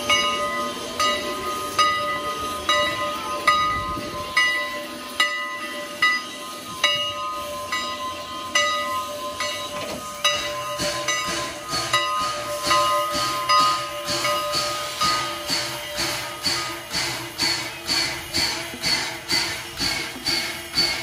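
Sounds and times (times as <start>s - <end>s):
hiss of steam: 0.0s - 21.0s
steam locomotive bell ringing: 0.0s - 21.0s.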